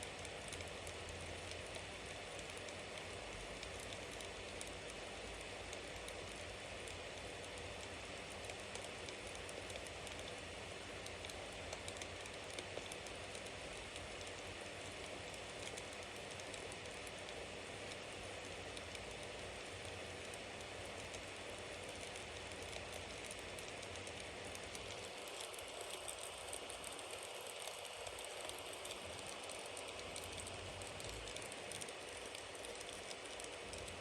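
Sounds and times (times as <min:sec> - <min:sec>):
bonfire crackling and popping: 0:00.1 - 0:34.0.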